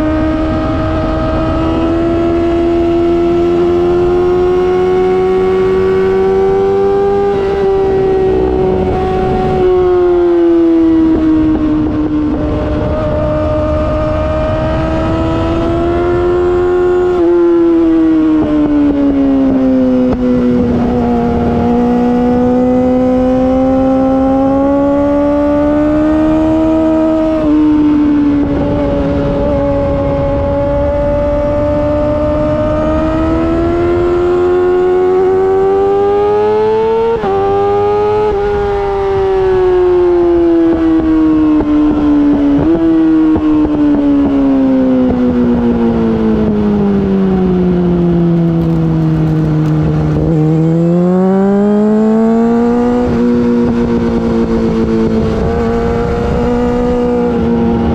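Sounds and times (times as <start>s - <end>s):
motorcycle engine revving high: 0.0s - 57.9s.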